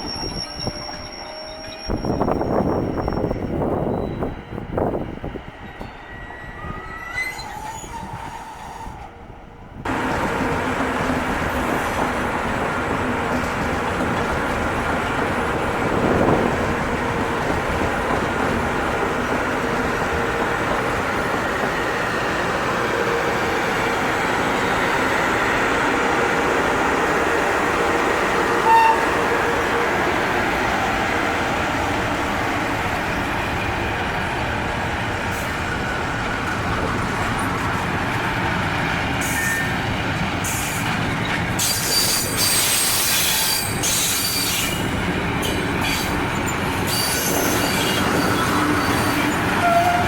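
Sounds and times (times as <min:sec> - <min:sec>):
train passing with rushing noise: 0:00.0 - 0:50.0.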